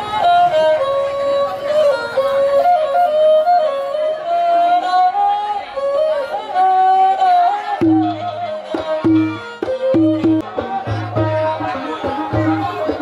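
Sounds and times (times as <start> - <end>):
bowed fiddle melody: 0.0 - 13.0.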